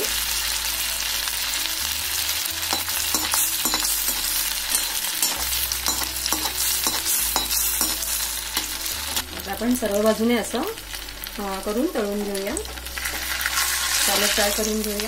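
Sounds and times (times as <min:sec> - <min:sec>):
oil sizzling and popping: 0:00.0 - 0:15.0.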